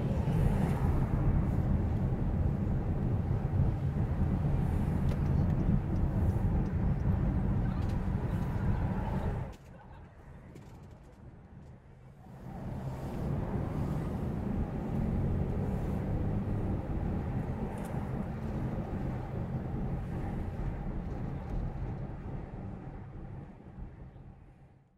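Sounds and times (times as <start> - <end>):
car road and engine rumble: 0.0 - 24.9.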